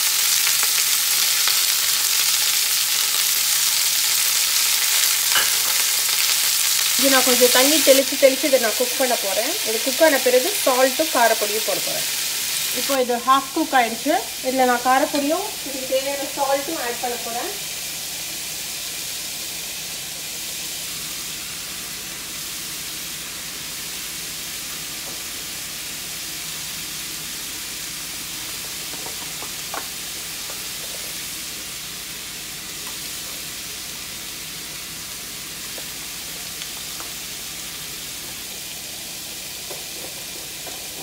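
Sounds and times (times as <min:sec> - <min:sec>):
vegetables sizzling in hot oil: 0:00.0 - 0:41.0.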